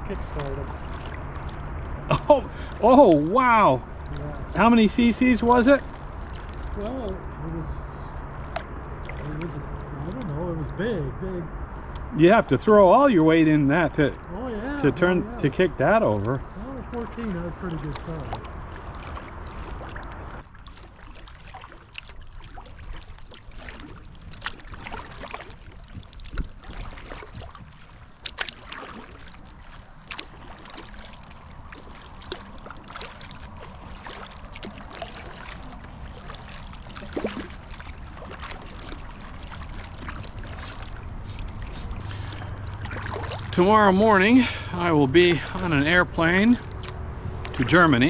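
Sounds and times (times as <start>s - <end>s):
paddle splashing water: 0.0s - 10.3s, 11.7s - 48.0s
low steady rumble: 0.0s - 48.0s.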